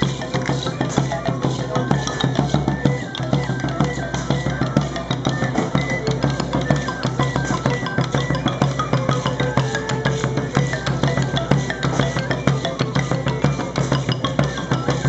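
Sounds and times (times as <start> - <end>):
drums quick steady beat: 0.0 - 15.0.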